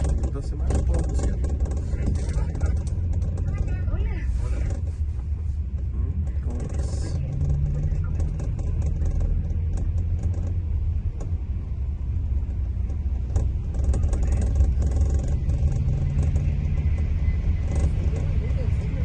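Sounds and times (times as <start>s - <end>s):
diesel engine drone: 0.0s - 19.0s
light clicks and rattles: 0.0s - 19.0s.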